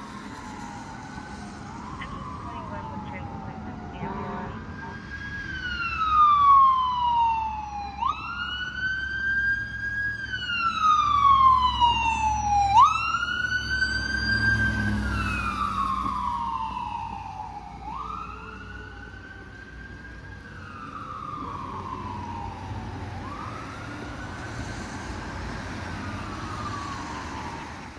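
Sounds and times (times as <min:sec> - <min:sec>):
ambulance siren wailing: 0:00.0 - 0:27.9.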